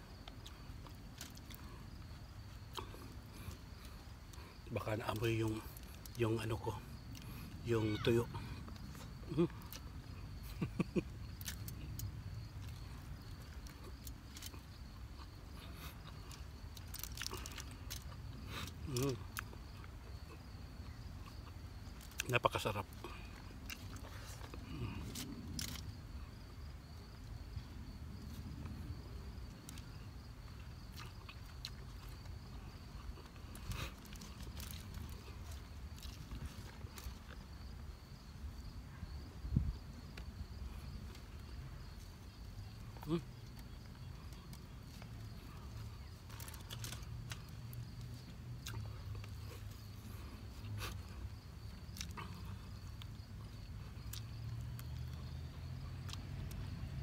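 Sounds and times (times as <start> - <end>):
high insect drone: 0.0 - 57.0
chewing: 0.1 - 4.7, 8.6 - 26.2, 28.2 - 38.7, 40.1 - 56.6.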